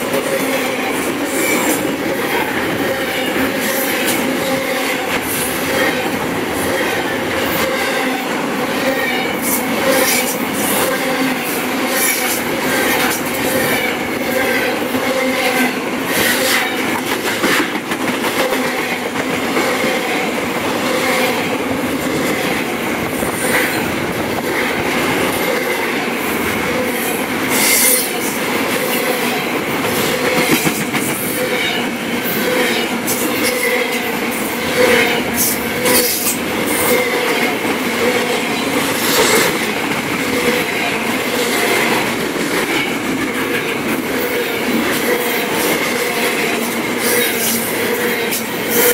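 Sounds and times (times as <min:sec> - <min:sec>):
steel wheels on rails: 0:00.0 - 0:48.9.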